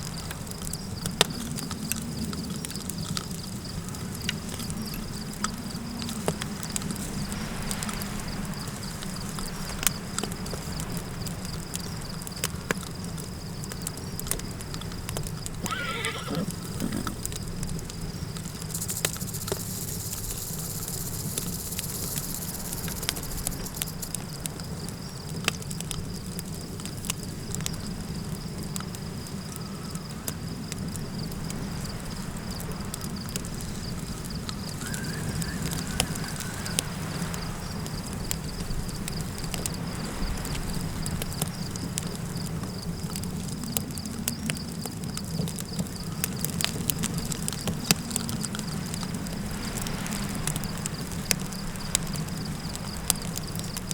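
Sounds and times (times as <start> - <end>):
campfire crackling and popping: 0.0 - 53.9
cricket trilling: 0.0 - 53.9
low rumble of wind: 0.0 - 53.9.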